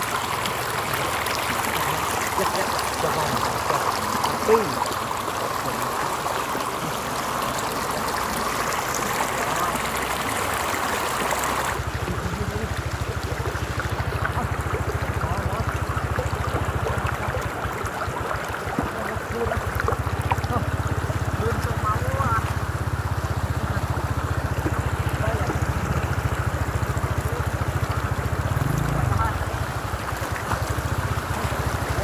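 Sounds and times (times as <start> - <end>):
floodwater rushing over road: 0.0 - 32.0.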